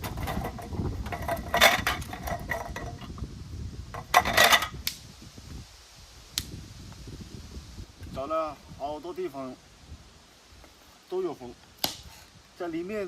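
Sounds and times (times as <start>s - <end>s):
wind rumble on microphone: 0.0s - 10.6s.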